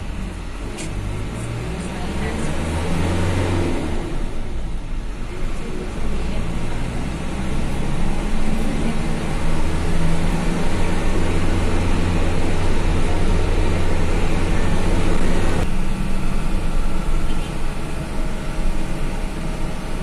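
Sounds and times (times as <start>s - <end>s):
diesel engine hum: 0.0s - 20.0s
road and tyre noise: 0.0s - 20.0s.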